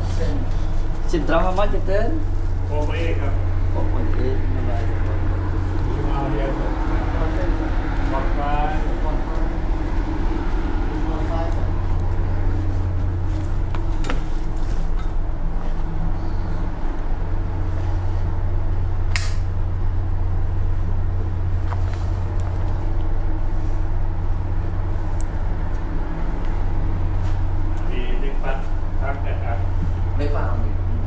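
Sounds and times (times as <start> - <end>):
ship machinery humming: 0.0 - 31.0.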